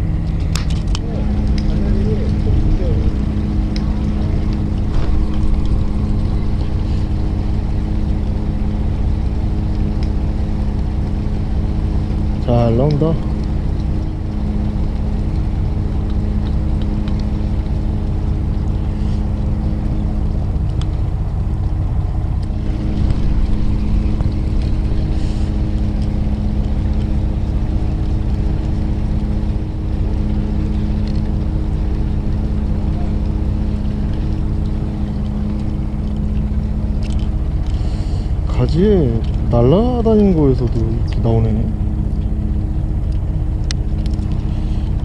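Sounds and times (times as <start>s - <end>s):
boat engine humming: 0.0s - 45.0s.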